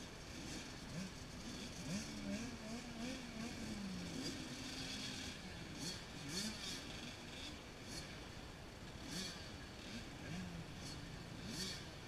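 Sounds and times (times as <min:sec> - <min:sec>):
distant dirt bikes revving: 0:00.0 - 0:12.0.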